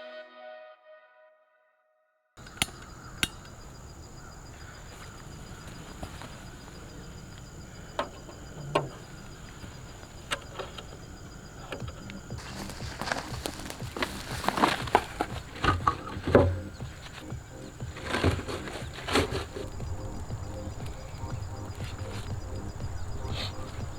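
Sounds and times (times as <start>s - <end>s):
high insect drone: 2.4s - 23.9s.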